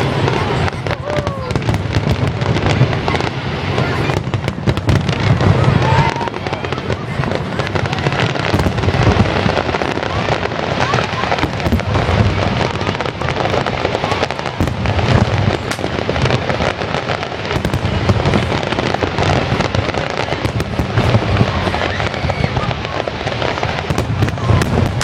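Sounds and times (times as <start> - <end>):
fireworks booming: 0.0 - 25.0
fireworks crackling: 0.0 - 25.0.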